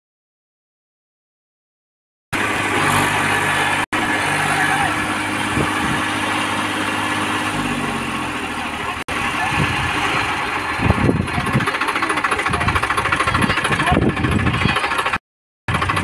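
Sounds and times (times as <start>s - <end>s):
tractor diesel engine chugging: 2.4s - 16.0s.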